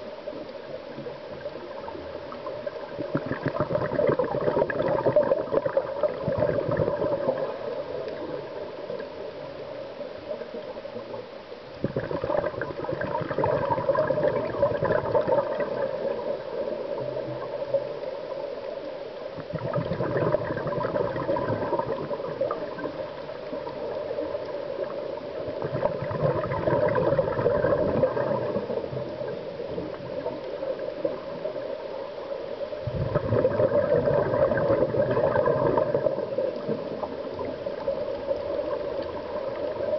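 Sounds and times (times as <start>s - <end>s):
bubbles gurgling underwater: 0.0s - 9.7s, 10.3s - 18.7s, 19.3s - 31.9s, 32.7s - 39.9s.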